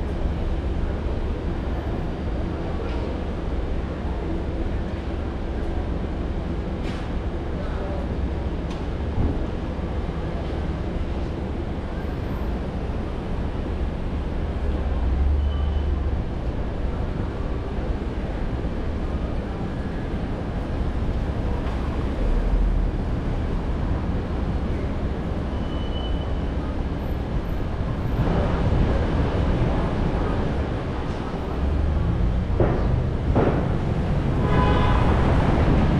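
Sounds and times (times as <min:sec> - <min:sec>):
car engine and tyre noise: 0:00.0 - 0:35.9.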